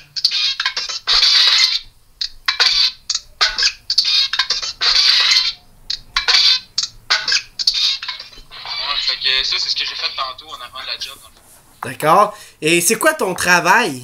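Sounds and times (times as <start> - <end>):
crackling sampler beat over telephone: 0.0 - 11.5.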